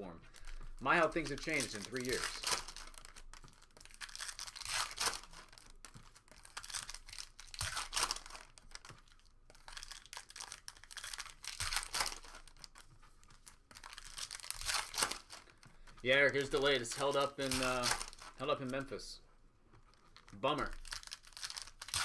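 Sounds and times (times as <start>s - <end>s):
card pack wrappers crinkling and tearing: 0.3s - 19.2s, 19.8s - 22.0s.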